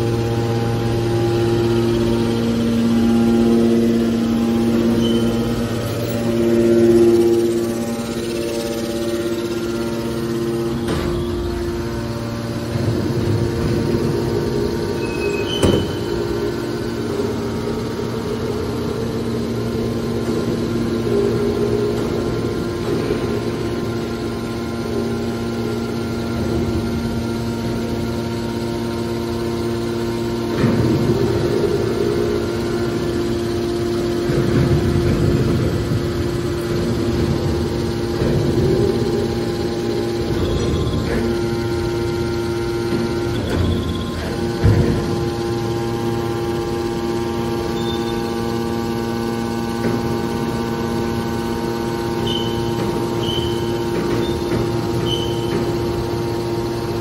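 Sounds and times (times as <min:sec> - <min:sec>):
hydraulic pump motor humming: 0:00.0 - 0:57.0.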